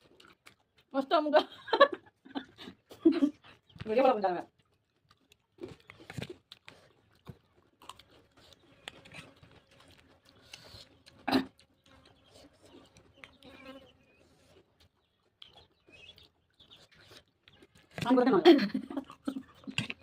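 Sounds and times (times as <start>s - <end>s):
chewing smacks and mouth clicks: 0.0s - 20.0s.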